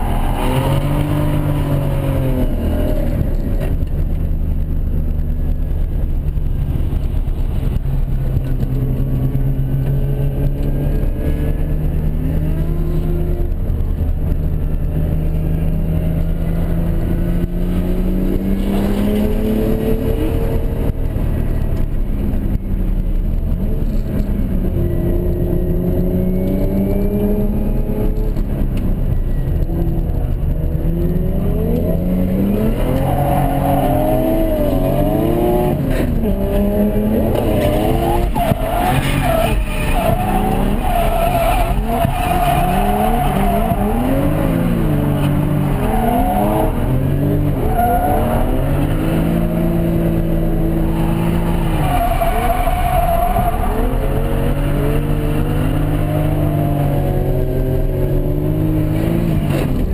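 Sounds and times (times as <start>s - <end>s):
car engine revving: 0.0s - 22.3s, 22.9s - 59.9s.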